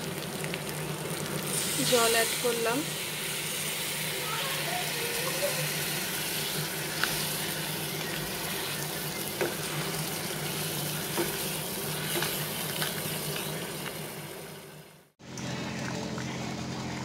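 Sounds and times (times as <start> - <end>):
curry sizzling and bubbling in a pan: 0.0 - 16.8.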